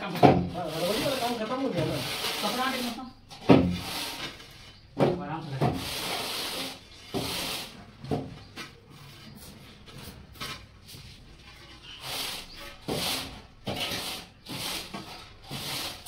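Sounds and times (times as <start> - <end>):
trowel scraping wet cement: 0.1 - 4.8, 5.4 - 7.8, 9.0 - 16.0.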